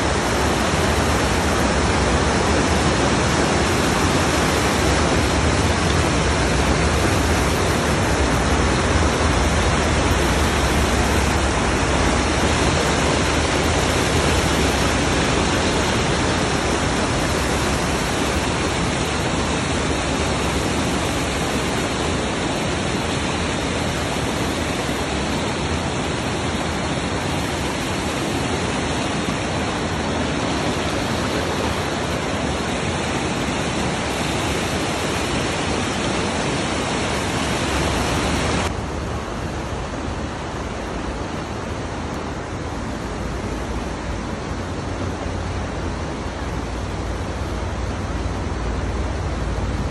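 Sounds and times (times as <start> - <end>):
whitewater rushing over boulders: 0.0 - 49.9.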